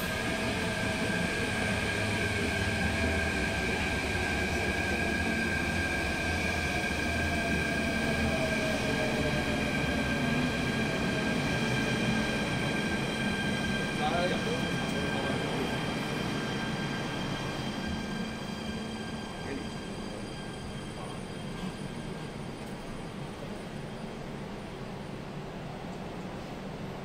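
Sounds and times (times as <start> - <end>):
electric train rumbling past: 0.0 - 27.0
high train whine: 0.0 - 27.0.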